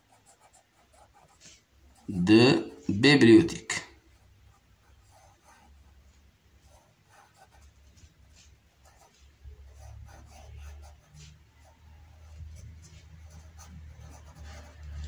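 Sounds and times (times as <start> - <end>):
pencil scratching on paper: 0.0 - 2.1, 4.1 - 15.0.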